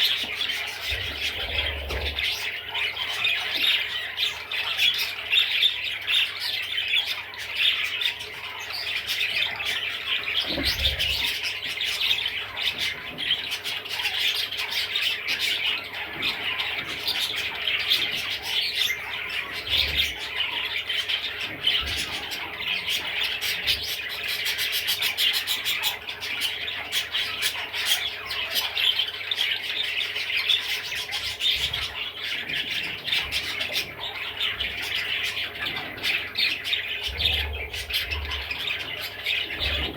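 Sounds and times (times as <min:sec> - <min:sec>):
budgerigar chattering: 0:00.0 - 0:39.9.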